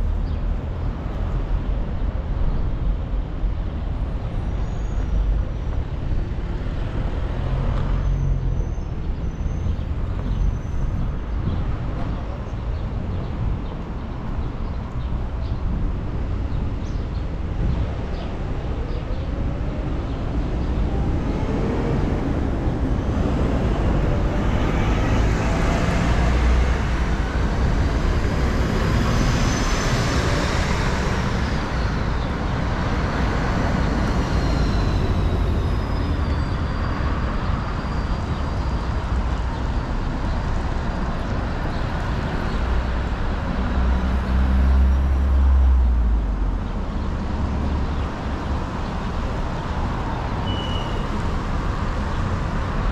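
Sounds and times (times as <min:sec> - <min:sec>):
vehicles passing: 0:00.0 - 0:52.9.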